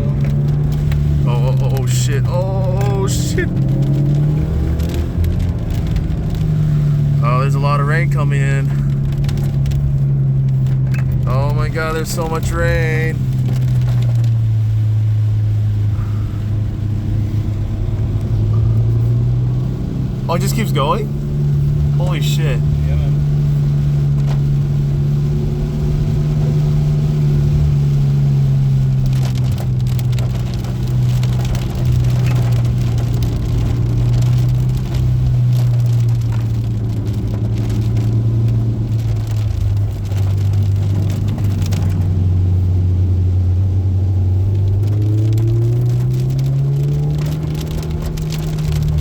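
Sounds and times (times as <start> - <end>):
car engine droning in cabin: 0.0 - 49.0
rain against car: 0.0 - 49.0
road noise: 0.0 - 49.0.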